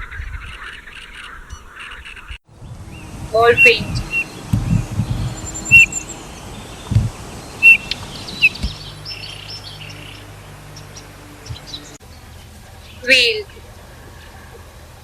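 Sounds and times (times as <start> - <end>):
bird chirping and twittering: 0.0 - 14.4
low outdoor rumbling: 2.4 - 15.0.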